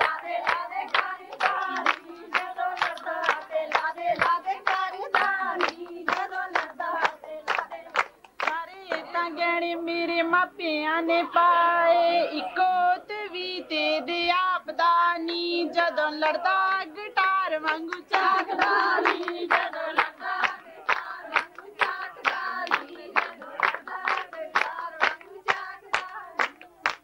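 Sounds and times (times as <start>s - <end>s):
rhythmic hand-clapping: 0.0s - 11.7s, 14.4s - 27.0s
group of women singing: 0.0s - 27.0s
woman singing: 0.0s - 27.0s.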